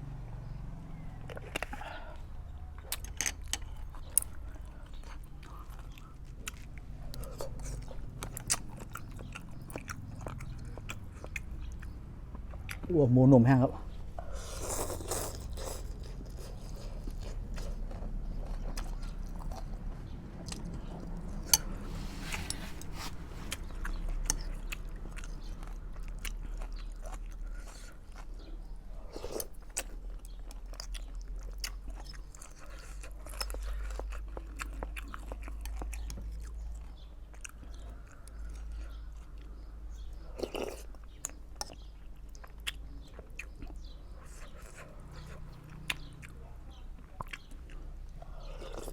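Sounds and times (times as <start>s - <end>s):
person chewing food: 1.0s - 12.9s, 14.0s - 46.4s, 47.0s - 48.9s.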